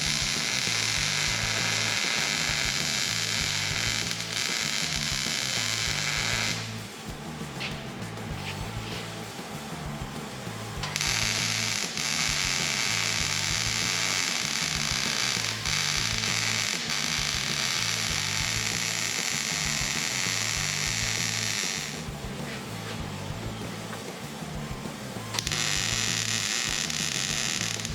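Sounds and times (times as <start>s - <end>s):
background music with bass line: 0.0s - 27.9s
power tool whining: 0.0s - 27.9s.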